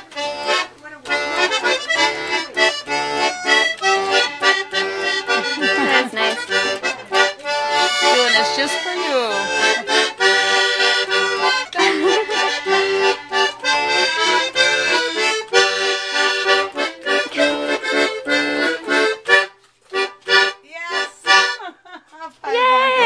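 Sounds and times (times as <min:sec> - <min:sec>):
accordion playing: 0:00.0 - 0:21.9.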